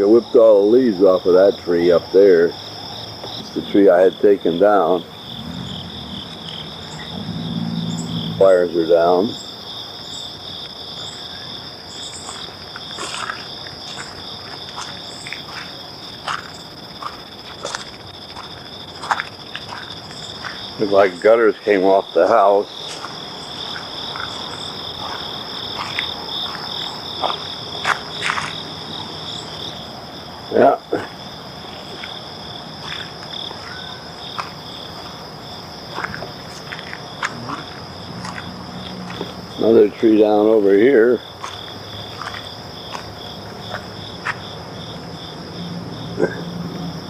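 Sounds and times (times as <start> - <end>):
crickets chirping: 0.0 - 47.0
insect chorus trilling: 0.0 - 47.0.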